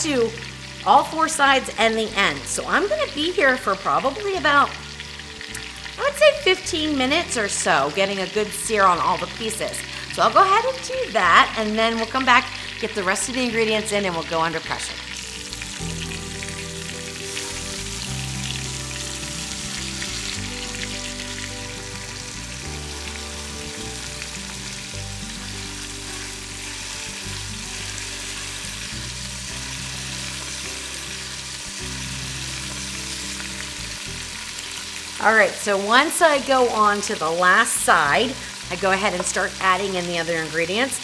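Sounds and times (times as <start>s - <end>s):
beef ribs sizzling in hot oil: 0.0s - 41.0s.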